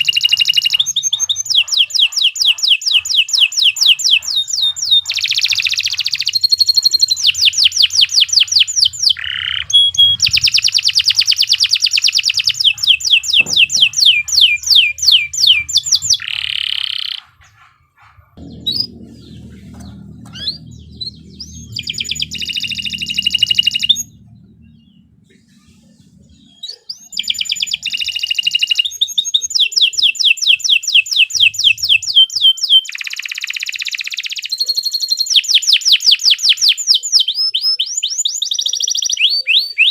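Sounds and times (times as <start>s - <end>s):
canary chirps: 0.0s - 39.9s
canary singing trills: 0.0s - 39.9s.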